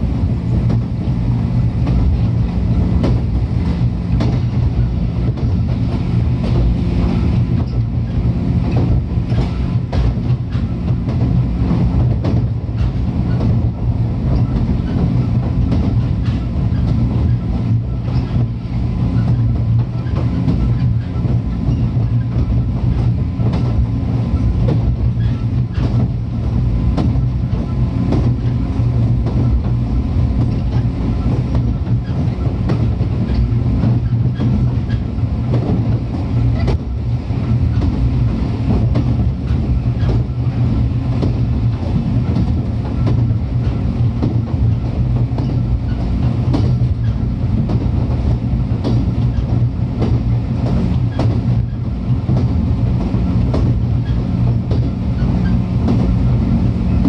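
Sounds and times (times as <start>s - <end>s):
train low hum: 0.0s - 57.0s.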